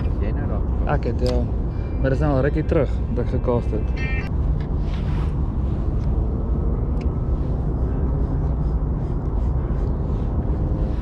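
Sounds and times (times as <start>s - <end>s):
engine rumble: 0.0s - 11.0s.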